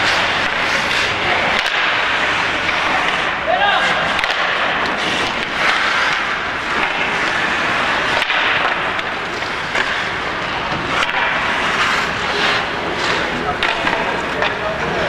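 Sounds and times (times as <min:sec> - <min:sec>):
hockey sticks and puck clacking: 0:00.0 - 0:15.0
skate blades scraping ice: 0:00.0 - 0:15.0.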